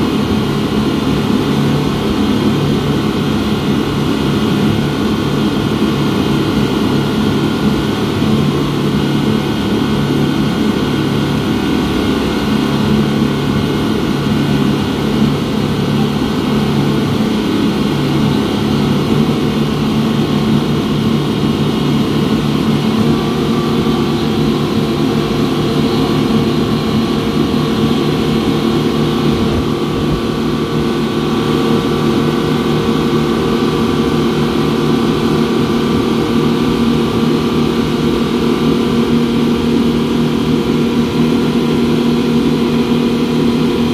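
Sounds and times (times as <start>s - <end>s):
outboard engines droning: 0.0s - 43.9s.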